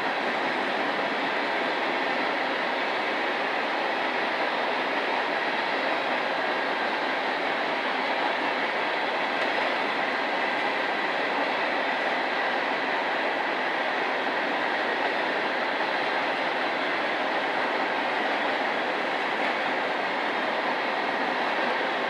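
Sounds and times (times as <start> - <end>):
train wheels running on rail: 0.0 - 22.0.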